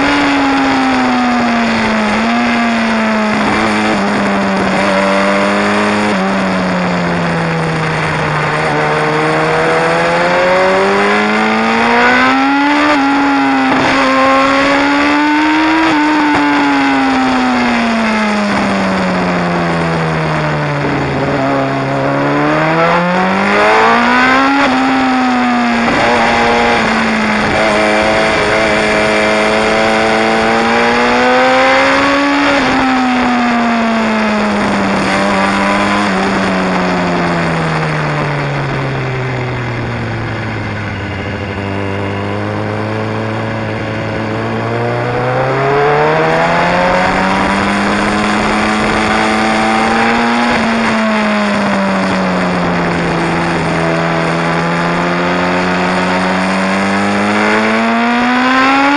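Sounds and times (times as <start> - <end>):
motorcycle engine and exhaust: 0.0 - 58.9.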